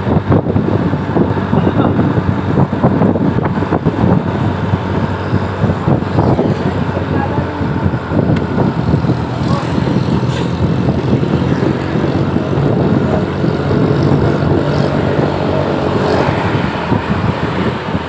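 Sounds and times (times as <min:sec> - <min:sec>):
heavy road traffic rumble: 0:00.0 - 0:18.0.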